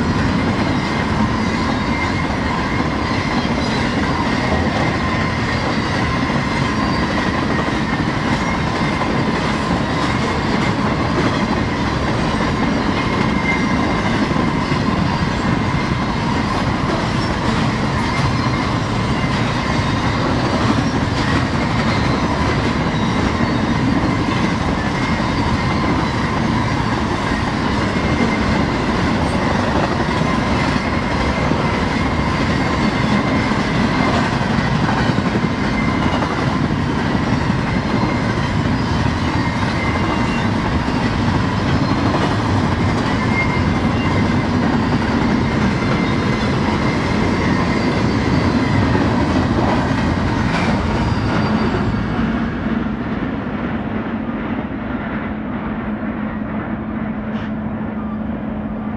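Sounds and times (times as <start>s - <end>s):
high steady squealing tone: 0.0s - 9.1s, 9.7s - 52.6s
freight train wheels clattering: 0.0s - 54.5s.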